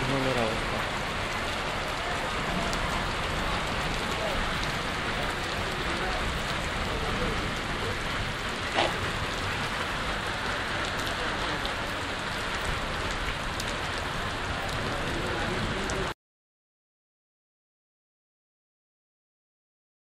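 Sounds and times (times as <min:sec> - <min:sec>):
heavy rain on pavement: 0:00.0 - 0:16.2.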